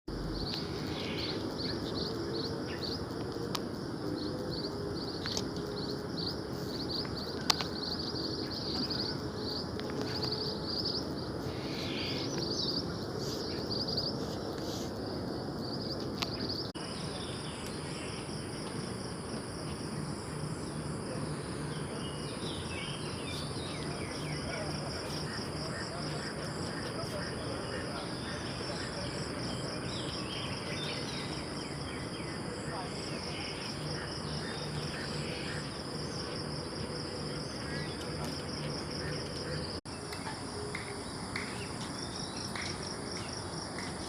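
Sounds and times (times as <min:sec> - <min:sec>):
high-pitched insect drone: 0:00.1 - 0:43.9
small birds chirping: 0:00.1 - 0:44.0.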